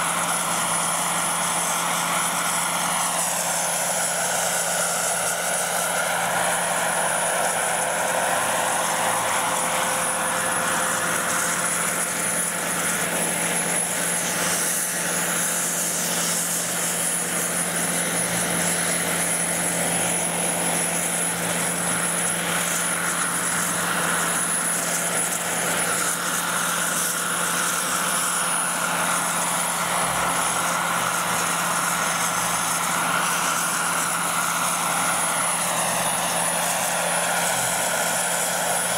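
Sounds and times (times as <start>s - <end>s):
model helicopter drone: 0.0s - 38.9s.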